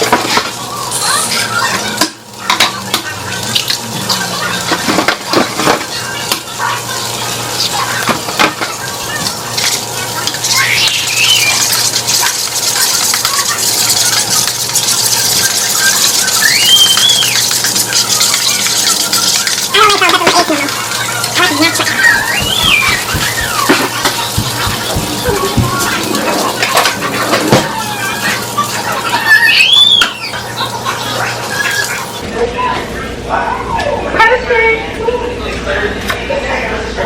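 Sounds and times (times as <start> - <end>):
frying sizzle: 0.0 - 32.3.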